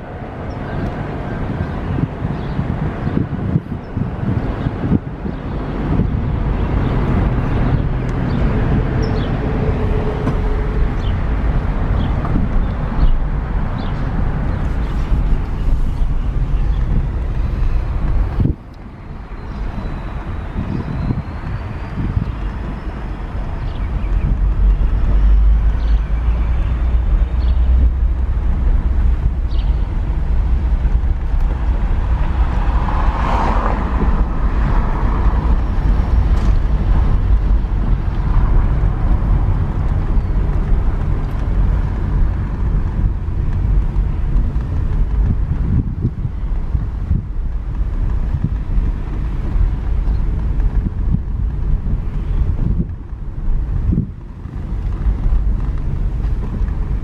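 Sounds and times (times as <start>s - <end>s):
vehicle engine and road noise: 0.0s - 57.0s
wind on microphone: 0.0s - 57.0s.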